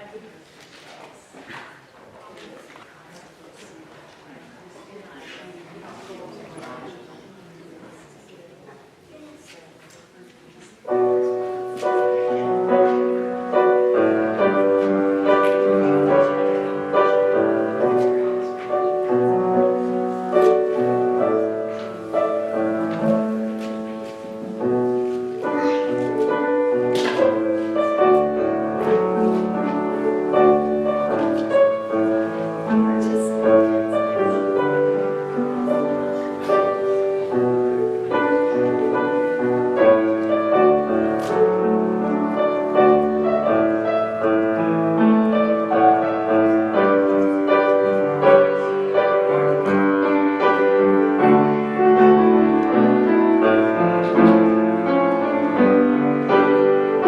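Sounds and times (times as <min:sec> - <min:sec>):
solo piano hymn: 0:10.8 - 0:57.0.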